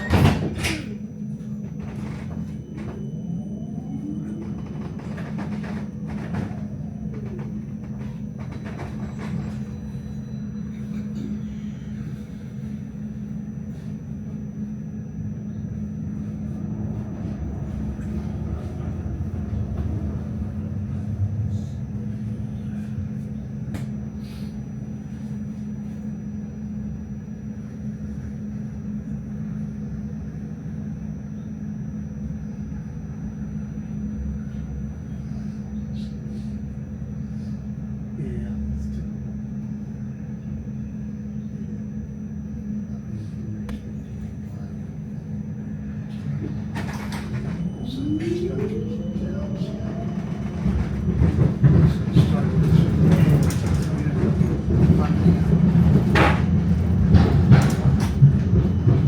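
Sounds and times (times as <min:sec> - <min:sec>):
constant hum: 0:00.0 - 0:59.0
tram rumbling on rails: 0:00.0 - 0:59.0.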